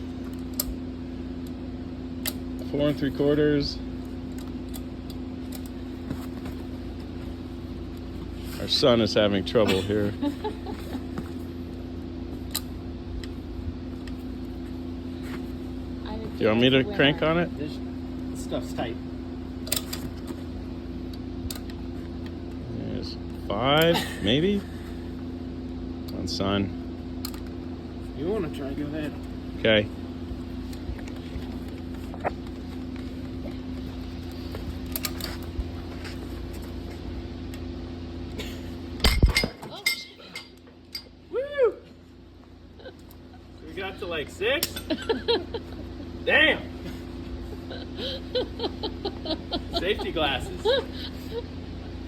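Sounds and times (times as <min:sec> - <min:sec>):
mechanical hum: 0:00.0 - 0:52.0.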